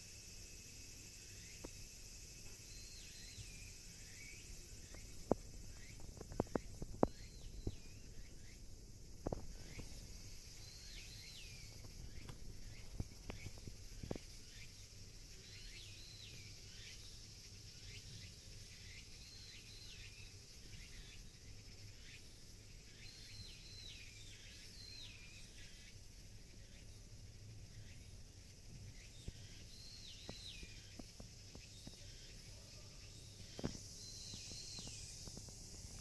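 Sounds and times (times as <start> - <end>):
insect hiss: 0.0 - 36.0.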